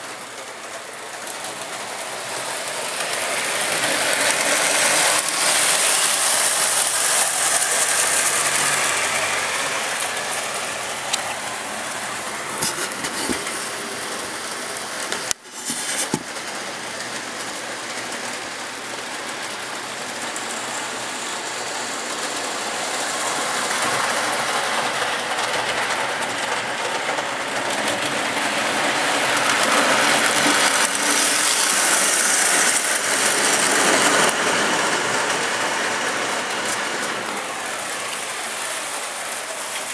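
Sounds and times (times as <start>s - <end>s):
toy train rattling on track: 0.0s - 39.9s.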